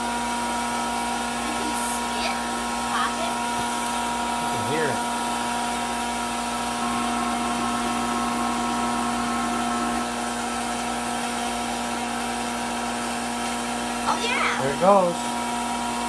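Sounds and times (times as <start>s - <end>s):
popcorn popper fan whirring: 0.0s - 16.0s.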